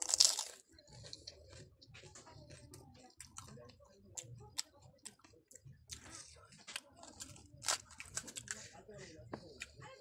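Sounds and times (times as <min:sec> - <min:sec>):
crunchy food being chewed: 0:00.0 - 0:10.0.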